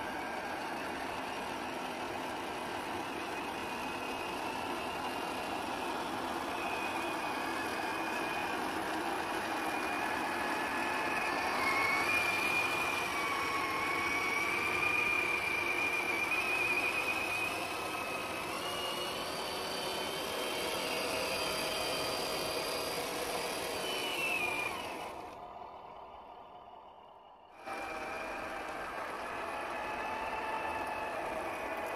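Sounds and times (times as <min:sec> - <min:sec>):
toy car motor whining: 0:00.0 - 0:25.4, 0:27.6 - 0:31.9
wheels churning through mud: 0:00.0 - 0:26.8, 0:27.6 - 0:31.9.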